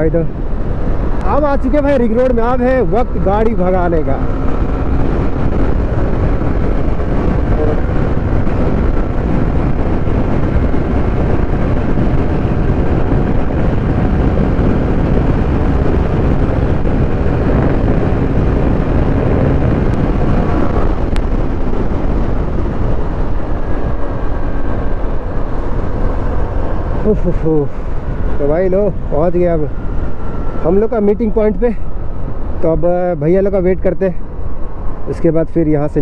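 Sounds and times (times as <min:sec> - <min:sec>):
wind rush on microphone: 0:00.0 - 0:36.0
motorcycle engine running: 0:02.4 - 0:32.6.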